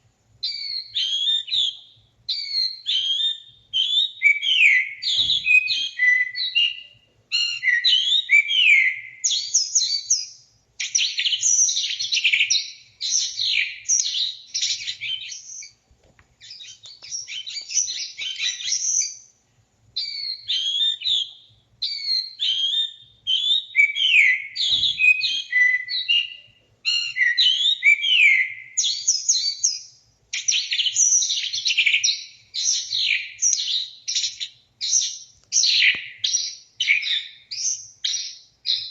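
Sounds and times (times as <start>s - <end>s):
songbird singing trilled notes: 0.4s - 15.8s, 16.4s - 19.4s, 20.0s - 38.9s.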